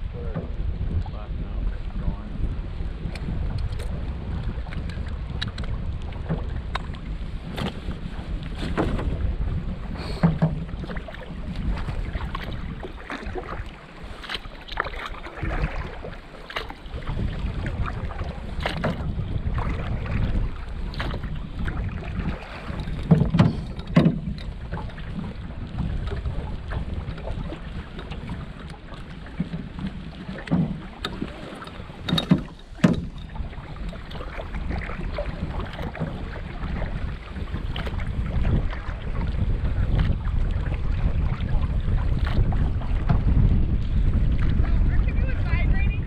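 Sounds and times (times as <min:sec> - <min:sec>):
paddle knocks and splashes: 0:00.0 - 0:46.0
water slapping hull: 0:00.0 - 0:46.0
wind on microphone: 0:00.0 - 0:46.0.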